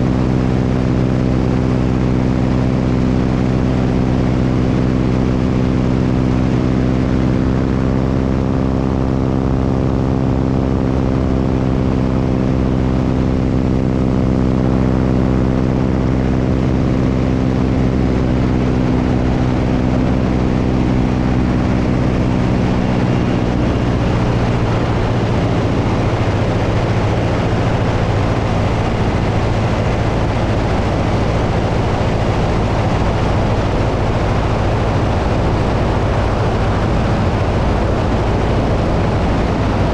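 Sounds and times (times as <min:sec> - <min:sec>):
propeller plane engine droning: 0:00.0 - 0:39.9
wind rush: 0:00.0 - 0:39.9.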